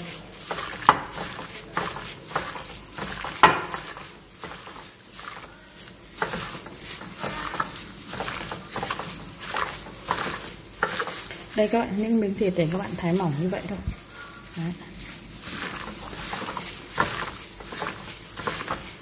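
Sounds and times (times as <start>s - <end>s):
plastic glove crinkling: 0.0s - 19.0s
wet squelching: 0.0s - 19.0s.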